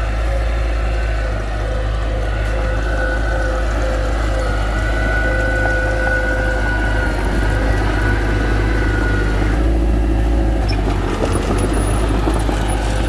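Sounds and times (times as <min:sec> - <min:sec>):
diesel engine running: 0:00.0 - 0:13.0
high steady whine: 0:00.0 - 0:13.0.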